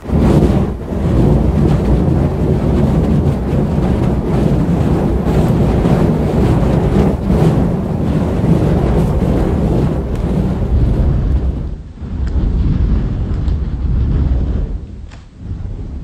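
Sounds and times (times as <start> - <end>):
fire poi whooshing: 0.0 - 16.0.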